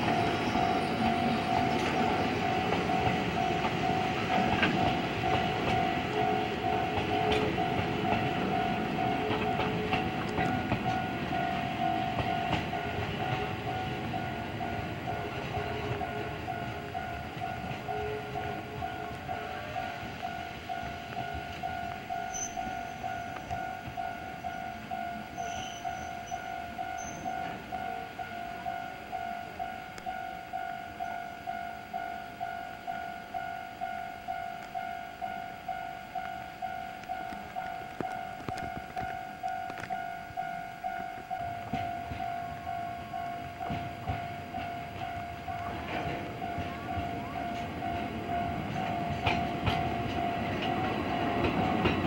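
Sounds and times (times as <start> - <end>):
freight train rumbling past: 0.0 - 52.0
level crossing alarm ringing: 0.0 - 52.0.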